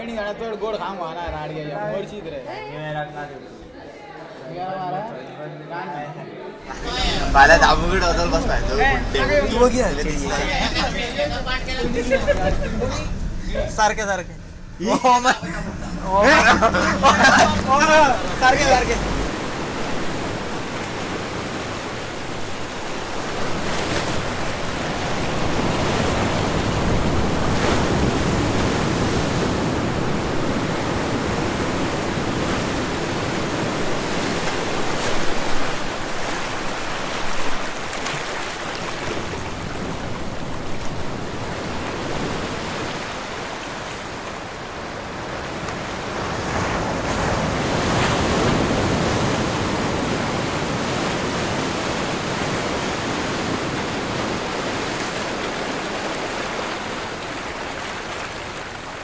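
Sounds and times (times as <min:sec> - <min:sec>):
rushing surf-like noise: 0:06.6 - 0:59.0.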